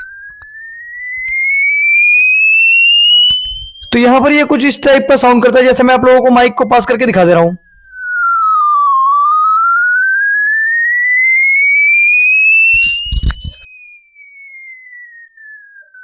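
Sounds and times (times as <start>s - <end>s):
sweeping tone from phone speaker: 0.0s - 16.0s.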